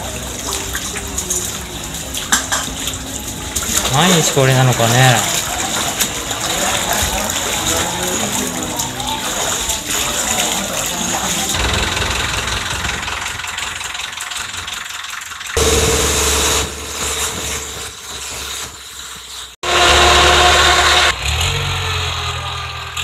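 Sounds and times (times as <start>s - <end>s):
boat engine running: 0.0s - 18.6s, 19.6s - 21.2s
water rushing: 0.0s - 18.6s.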